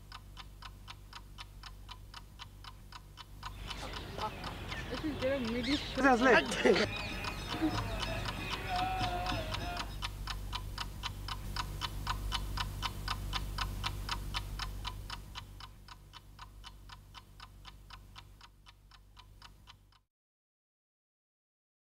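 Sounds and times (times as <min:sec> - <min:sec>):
clock ticking fast: 0:00.0 - 0:20.0
low steady hum: 0:00.0 - 0:20.0.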